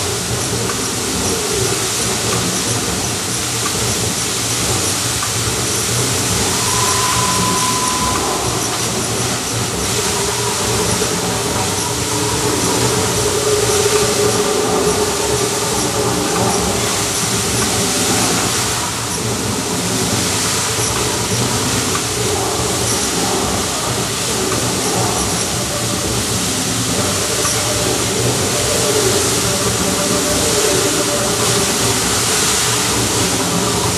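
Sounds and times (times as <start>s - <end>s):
fountain water jets splashing: 0.0s - 33.9s.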